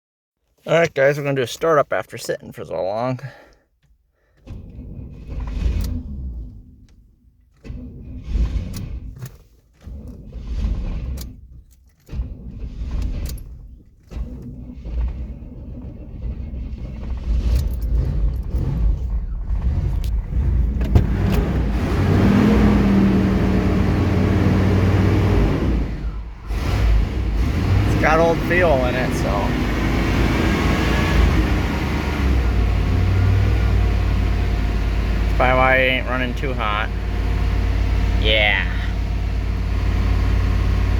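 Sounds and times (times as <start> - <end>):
engine cranking: 3.0 - 40.9
engine running unevenly: 4.3 - 40.9.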